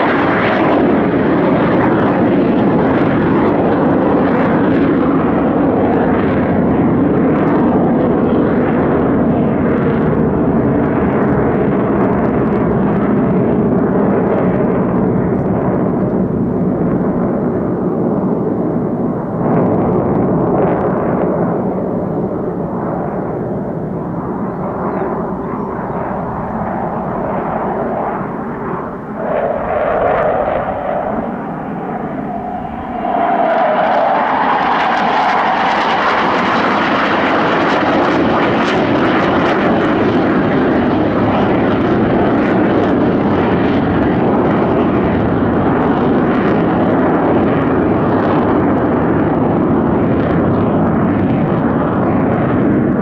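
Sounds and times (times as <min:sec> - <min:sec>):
jet aircraft passing: 0:00.0 - 0:53.0.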